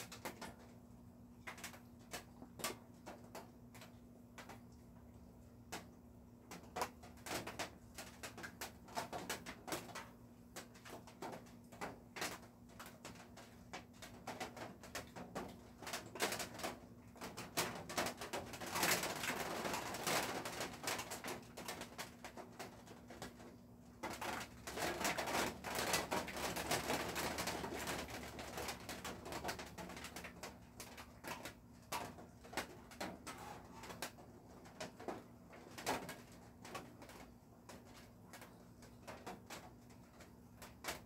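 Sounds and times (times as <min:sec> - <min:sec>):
birds clicking and scratching: 0:05.7 - 0:41.0.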